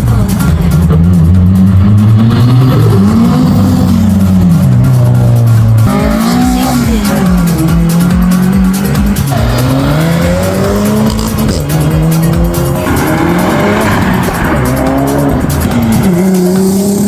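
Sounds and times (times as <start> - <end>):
background music with a beat: 0.0 - 17.0
car engine revving: 0.0 - 17.0.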